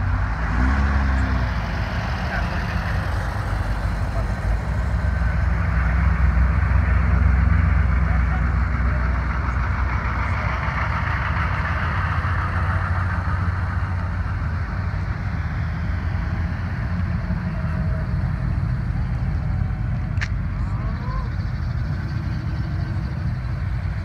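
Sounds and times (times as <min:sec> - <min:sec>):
car engines passing slowly: 0:00.0 - 0:24.0.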